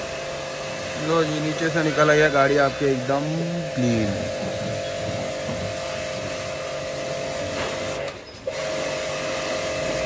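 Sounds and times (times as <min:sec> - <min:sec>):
pressure washer pump whining: 0:00.0 - 0:10.0
water spraying: 0:00.0 - 0:10.0.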